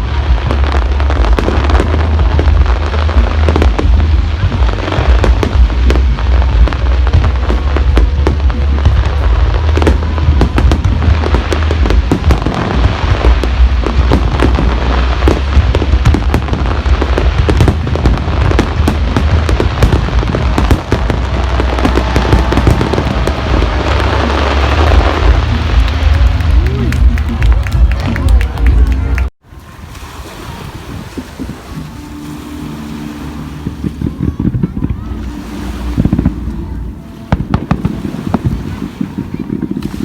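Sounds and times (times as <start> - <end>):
deep rumble: 0.0 - 40.0
fireworks bangs and crackles: 0.0 - 40.0.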